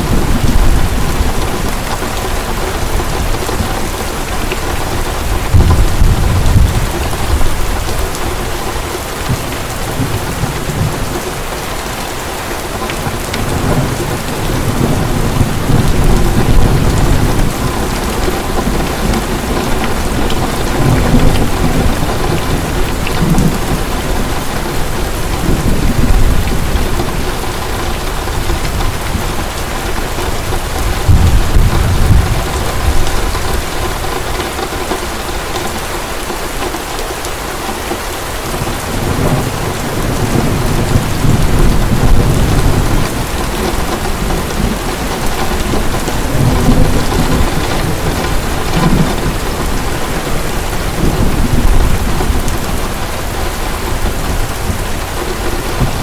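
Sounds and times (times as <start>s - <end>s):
low thunder rumbles: 0.0s - 36.0s, 38.4s - 56.0s
heavy rain pouring: 0.0s - 56.0s.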